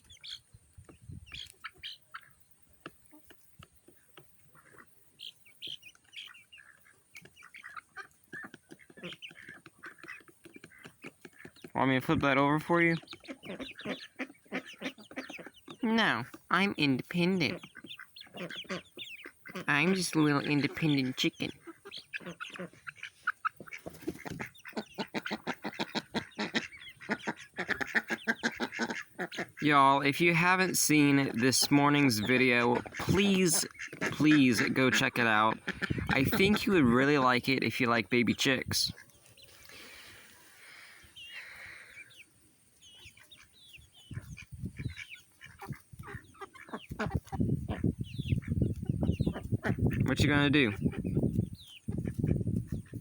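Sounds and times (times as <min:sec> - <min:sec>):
chickens clucking: 0:00.0 - 0:53.0
ducks quacking: 0:00.0 - 0:53.0.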